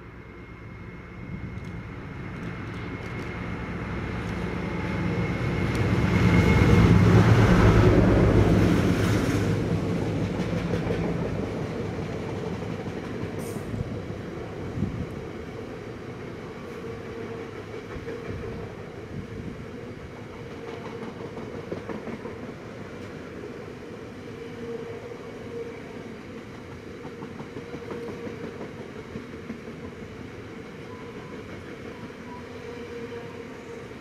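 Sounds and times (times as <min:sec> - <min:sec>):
train wagons rumbling on rails: 0:01.1 - 0:23.6, 0:25.9 - 0:33.5.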